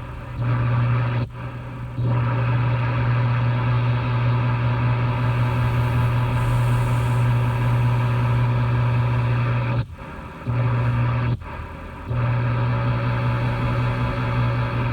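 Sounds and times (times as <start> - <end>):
loud machine hum: 0.0 - 14.9.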